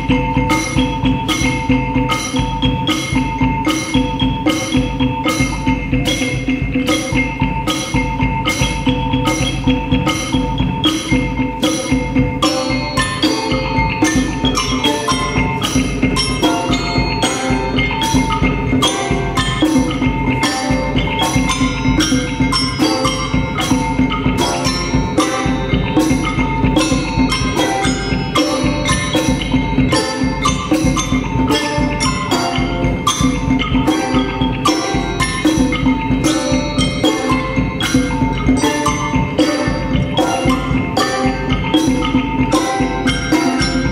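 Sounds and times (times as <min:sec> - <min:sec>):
mallet percussion notes: 0:00.0 - 0:43.9
sharp percussion strikes: 0:00.0 - 0:43.9.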